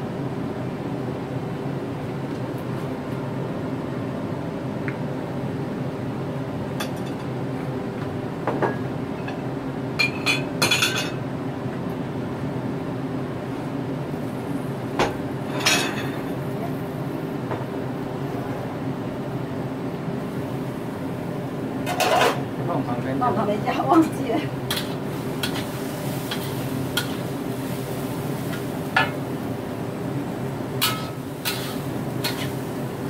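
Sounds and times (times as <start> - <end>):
steady cooking hum: 0.0 - 33.0.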